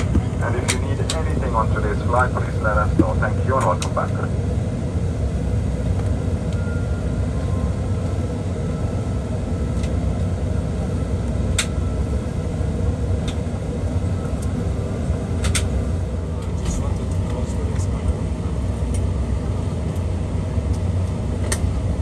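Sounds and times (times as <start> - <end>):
low cabin rumble: 0.0 - 22.0.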